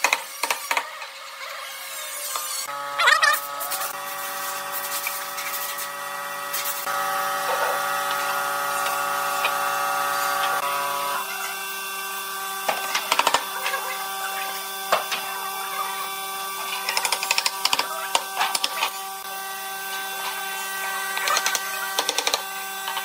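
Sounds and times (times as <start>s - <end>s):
power tool motor whining: 1.3s - 23.0s.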